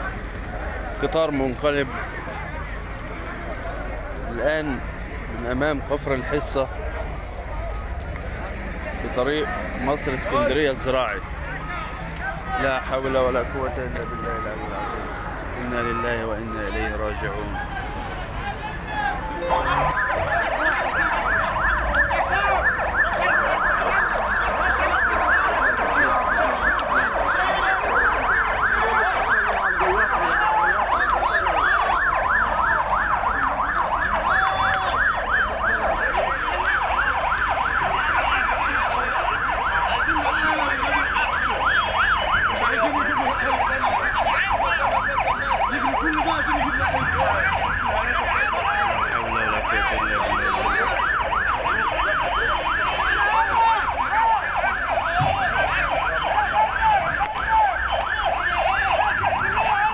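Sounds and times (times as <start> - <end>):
yelping emergency sirens: 0.0 - 59.9.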